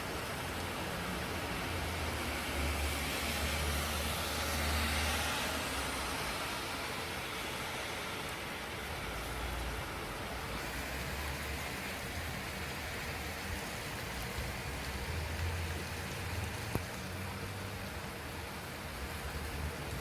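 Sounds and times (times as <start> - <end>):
rain-like hiss: 0.0 - 20.0.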